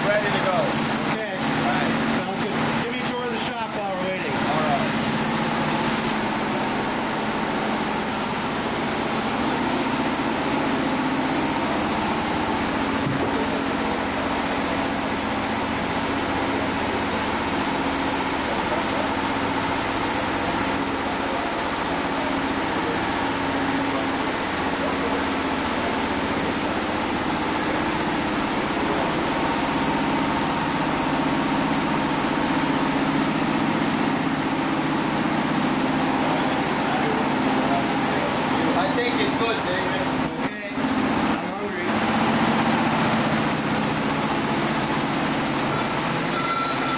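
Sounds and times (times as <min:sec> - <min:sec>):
machine drone with hum and hiss: 0:00.0 - 0:46.9.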